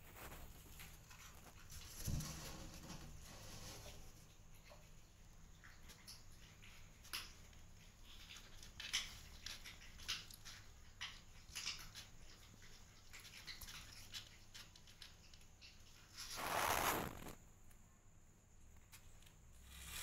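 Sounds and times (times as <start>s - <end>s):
rustle: 0.0s - 17.8s.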